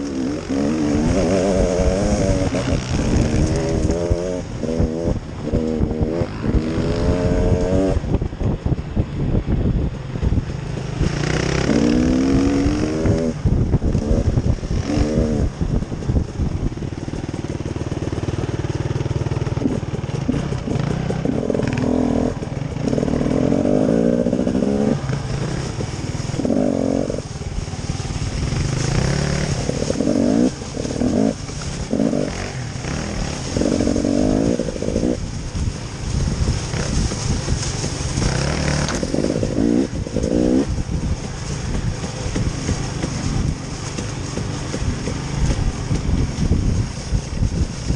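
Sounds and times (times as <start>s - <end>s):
off-road vehicle engine revving: 0.0s - 8.2s, 10.2s - 47.9s
low rumble: 0.0s - 47.9s.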